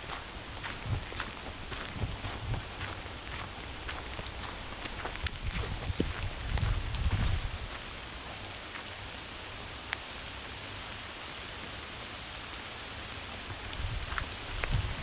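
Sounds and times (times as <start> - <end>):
steady rain falling: 0.0 - 15.0
raindrop ticks: 0.1 - 10.6, 12.5 - 15.0.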